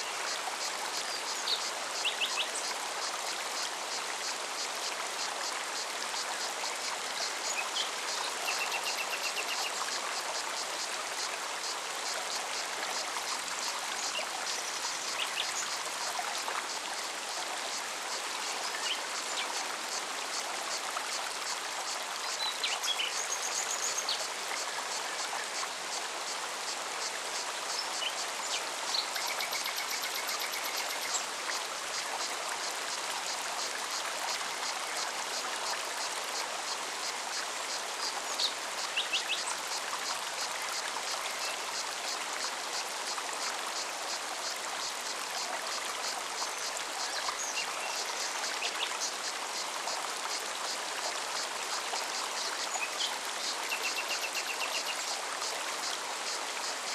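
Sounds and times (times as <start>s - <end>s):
stream running: 0.0s - 56.9s.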